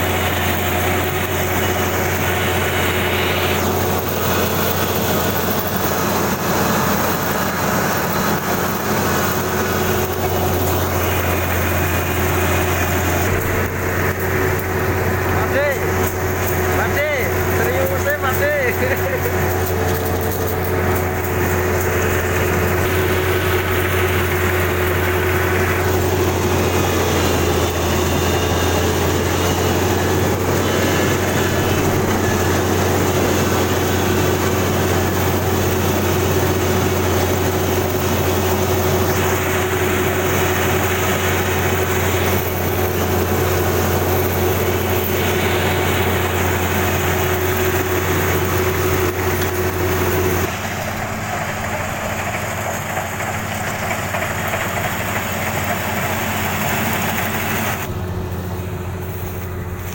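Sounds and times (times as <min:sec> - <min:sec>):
combine harvester engine hum: 0:00.0 - 0:59.9
steady machine tone: 0:00.0 - 0:59.9.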